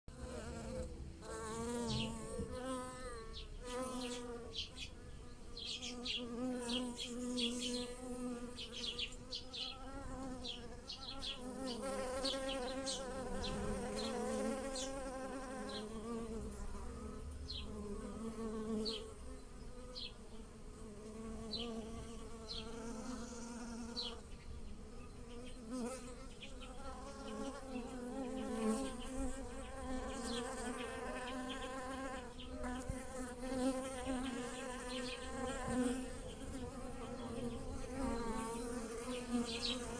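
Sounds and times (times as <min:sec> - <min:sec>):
bees buzzing: 0:00.1 - 0:39.9.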